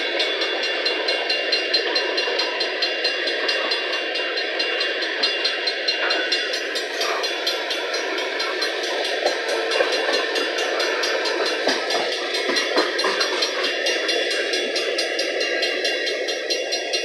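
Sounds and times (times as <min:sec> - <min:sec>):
high ringing from wheels: 0:00.0 - 0:17.0
train wheels clicking over rails: 0:00.0 - 0:17.0.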